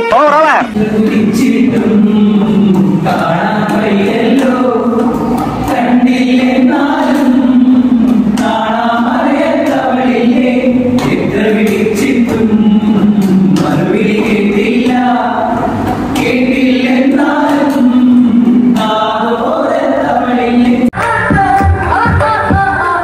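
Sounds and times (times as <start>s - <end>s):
choir singing long notes: 0.7s - 23.0s.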